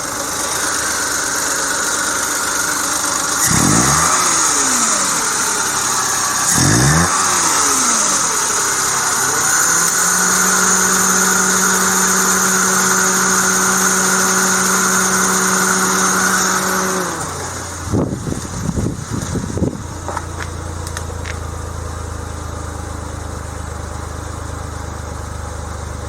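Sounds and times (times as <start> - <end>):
car engine revving: 0.0 - 21.5.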